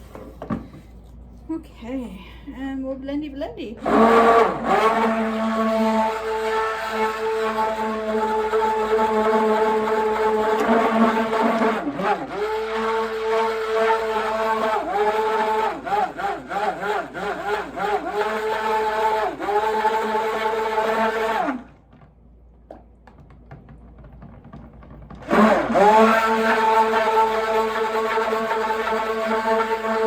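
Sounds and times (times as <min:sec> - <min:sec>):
stick blender running: 0:03.8 - 0:22.0, 0:23.1 - 0:30.0.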